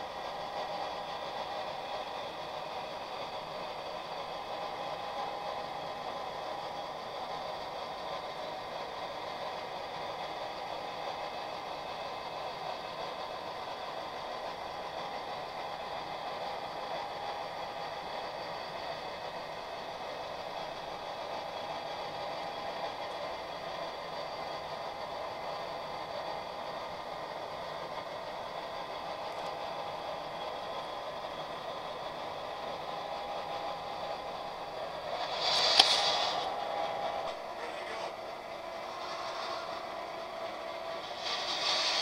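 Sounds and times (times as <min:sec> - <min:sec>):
faint motor whine: 0:00.0 - 0:42.0
model train running on track: 0:00.0 - 0:42.0.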